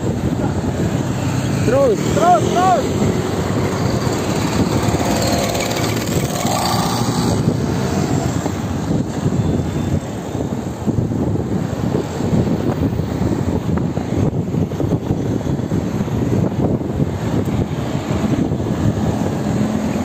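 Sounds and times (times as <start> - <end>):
road vehicle rumbling: 0.0 - 20.0
wind buffeting microphone: 0.0 - 20.0.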